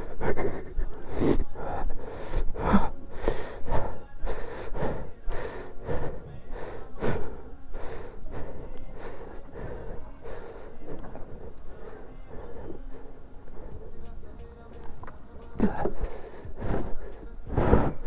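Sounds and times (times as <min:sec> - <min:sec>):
person panting hard: 0:00.0 - 0:14.3, 0:15.0 - 0:18.0.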